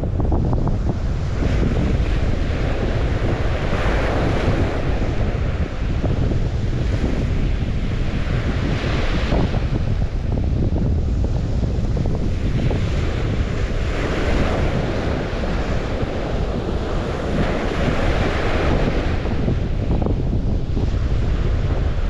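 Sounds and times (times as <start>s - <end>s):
waves washing onto shore: 0.0s - 22.0s
wind buffeting microphone: 0.0s - 22.0s.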